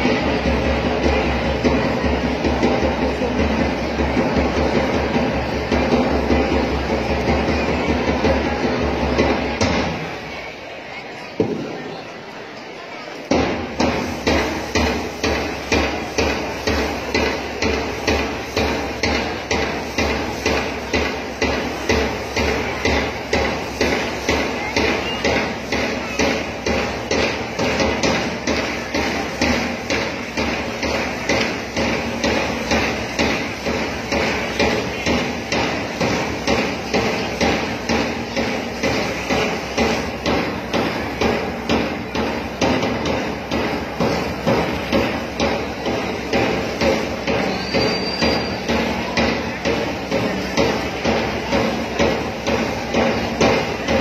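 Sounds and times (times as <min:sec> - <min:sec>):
steady drum beat: 0:00.0 - 0:10.2, 0:13.3 - 0:54.0.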